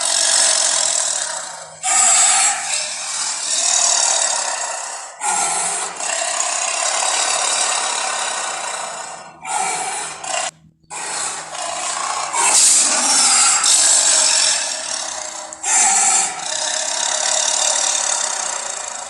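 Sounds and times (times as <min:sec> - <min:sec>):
harsh raspy growling: 0:00.0 - 0:19.0.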